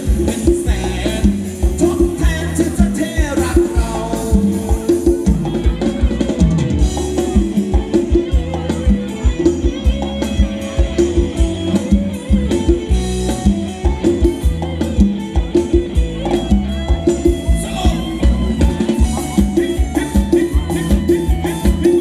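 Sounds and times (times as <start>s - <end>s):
dance band music: 0.0s - 22.0s
driving drum beat: 0.0s - 22.0s.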